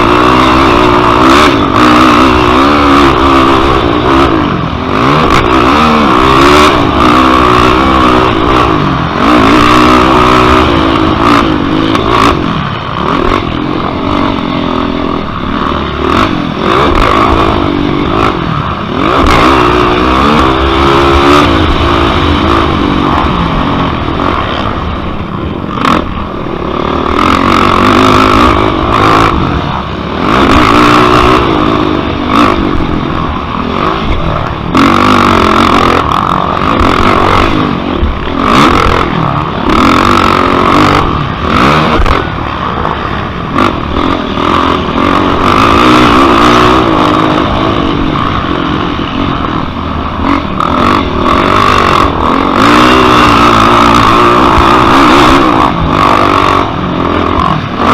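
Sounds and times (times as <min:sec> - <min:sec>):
quad engine revving: 0:00.0 - 0:57.9.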